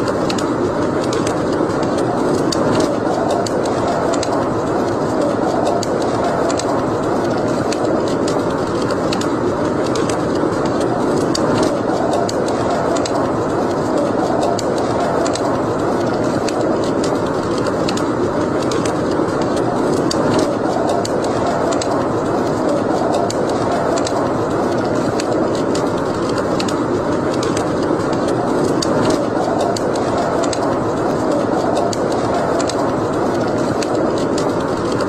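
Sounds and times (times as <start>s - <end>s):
fire burning in fireplace: 0.0s - 35.0s
fire crackling and popping: 0.0s - 35.0s.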